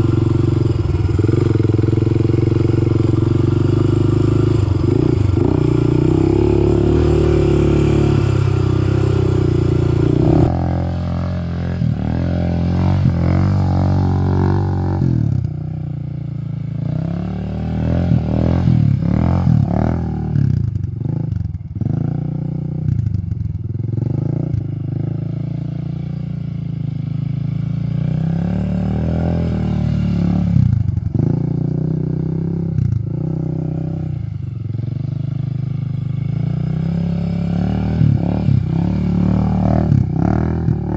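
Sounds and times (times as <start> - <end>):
quad engine revving: 0.0 - 15.8, 16.7 - 22.8, 27.0 - 34.2, 35.7 - 40.9.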